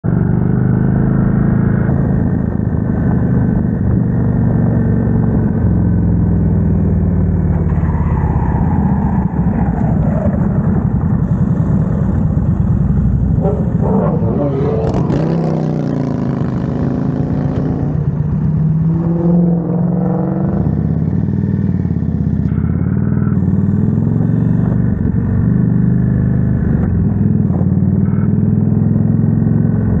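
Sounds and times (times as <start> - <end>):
motorcycle engine running: 0.0 - 8.3, 10.0 - 30.0.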